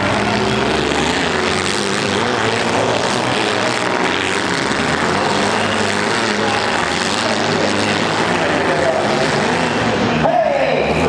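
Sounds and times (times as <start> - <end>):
several car engines droning: 0.0 - 11.0.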